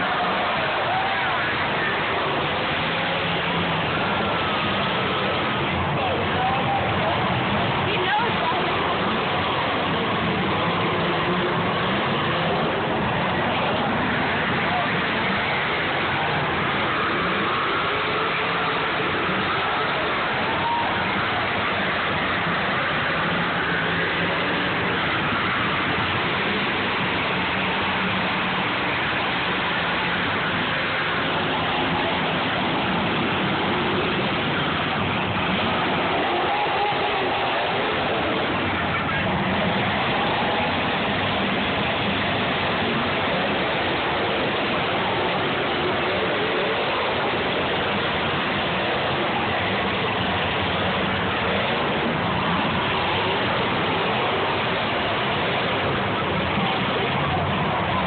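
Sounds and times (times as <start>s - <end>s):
low hum: 0.0s - 58.0s
several car engines running: 0.0s - 58.0s.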